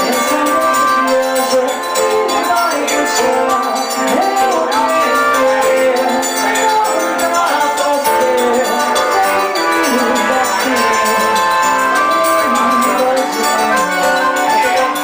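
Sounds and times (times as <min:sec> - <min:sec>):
accordion melody: 0:00.0 - 0:15.0
guitar: 0:00.0 - 0:15.0
hand percussion: 0:00.0 - 0:15.0.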